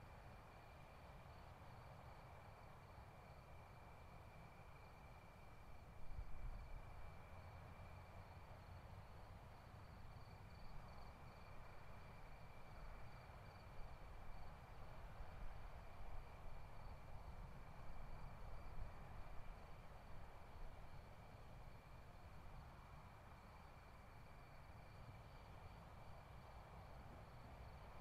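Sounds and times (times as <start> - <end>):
low rumble and hiss: 0.0 - 28.0.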